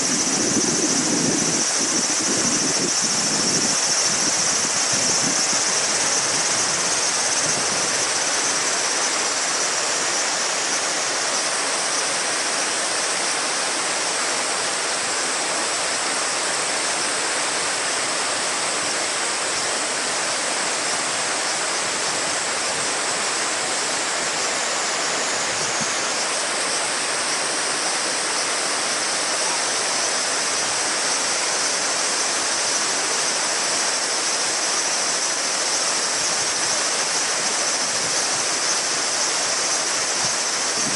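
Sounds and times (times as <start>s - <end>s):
cicadas droning: 0.0s - 40.9s
river babbling: 0.0s - 40.9s.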